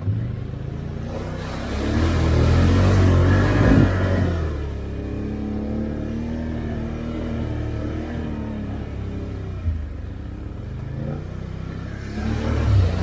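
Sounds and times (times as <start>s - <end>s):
atv engine accelerating: 0.0s - 13.0s.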